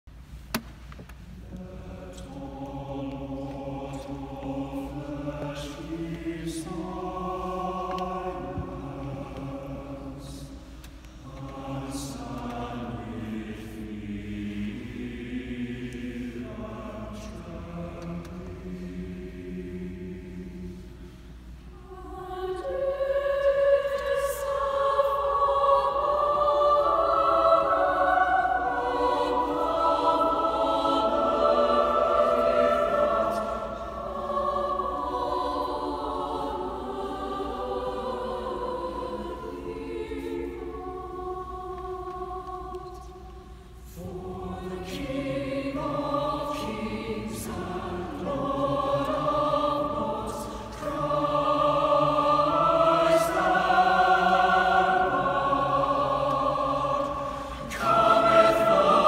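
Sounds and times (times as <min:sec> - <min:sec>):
choir singing: 0:01.4 - 0:59.0.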